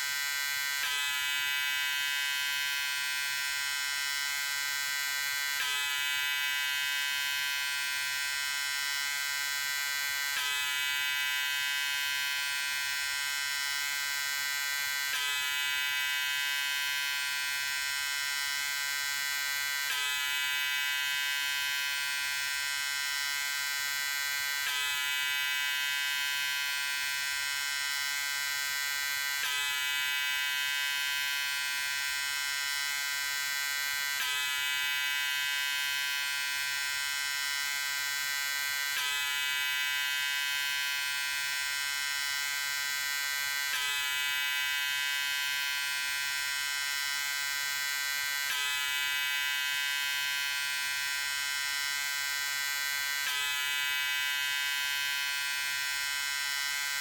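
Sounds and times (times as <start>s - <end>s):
electric razor buzzing: 0.0s - 57.0s.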